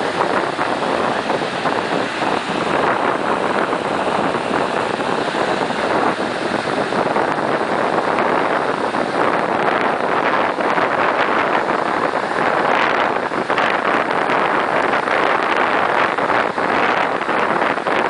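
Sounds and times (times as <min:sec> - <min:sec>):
surf washing over rocks: 0:00.0 - 0:18.0.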